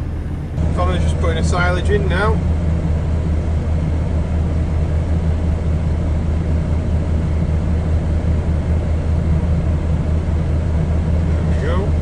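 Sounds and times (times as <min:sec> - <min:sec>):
diesel engine low drone: 0:00.0 - 0:12.0.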